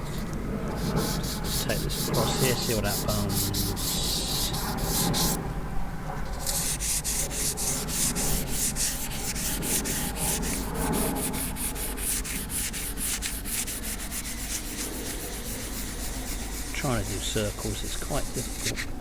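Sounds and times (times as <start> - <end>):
wet sandpaper rubbing on panel: 0.0 - 5.4, 6.4 - 19.0.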